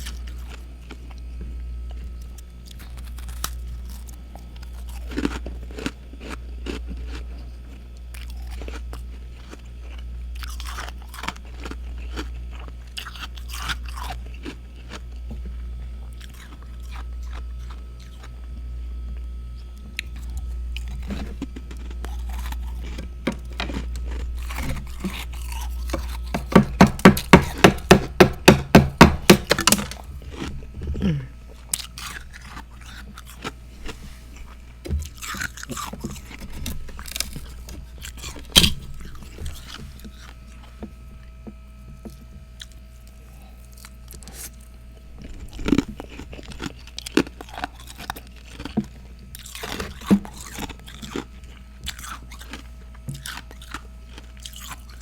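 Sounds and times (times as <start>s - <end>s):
person crunching and chewing: 0.0s - 55.0s.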